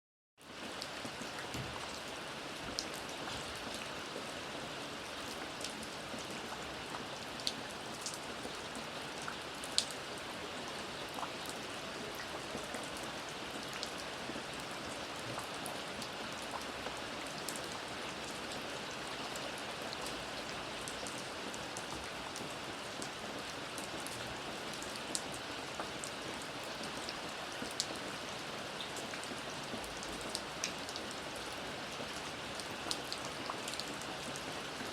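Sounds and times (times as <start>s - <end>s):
steady rain falling: 0.4s - 34.9s
raindrops ticking on a surface: 0.5s - 34.9s.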